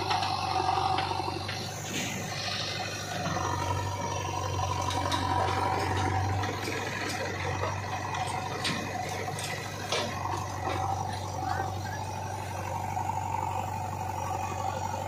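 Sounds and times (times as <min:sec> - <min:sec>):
diesel engine running: 0:00.0 - 0:15.0
steady machine whine: 0:00.0 - 0:15.0.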